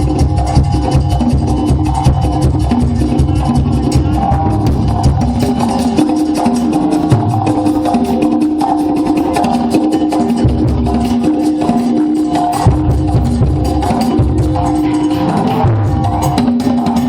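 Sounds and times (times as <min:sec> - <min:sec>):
band playing cumbia live: 0:00.0 - 0:17.0
clicking percussion beat: 0:00.0 - 0:17.0
pulsing bass line: 0:00.0 - 0:17.0.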